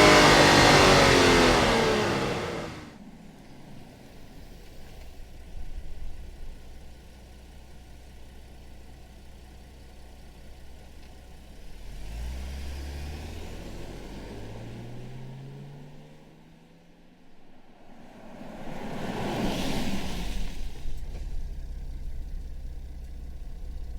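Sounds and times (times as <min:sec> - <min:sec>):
car engine idling and pulling away: 0:00.0 - 0:23.9.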